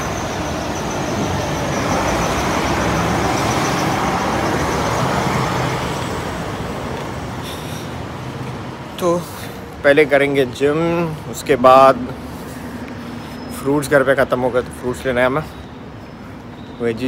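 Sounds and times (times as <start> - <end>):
traffic on wet street: 0.0 - 17.0.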